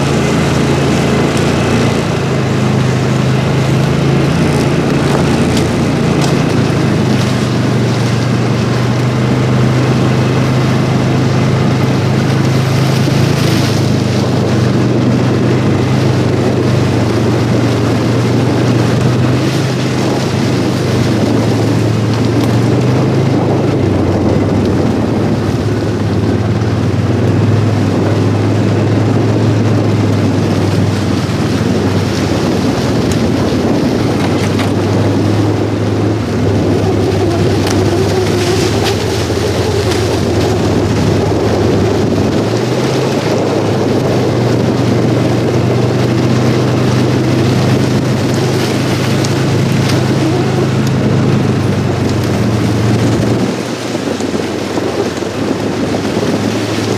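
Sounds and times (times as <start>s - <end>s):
vehicle engine and road noise: 0.0s - 56.9s.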